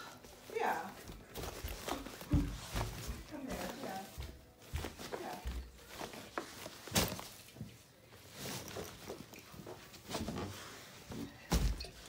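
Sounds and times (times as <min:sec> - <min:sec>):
footsteps: 0:00.2 - 0:12.0.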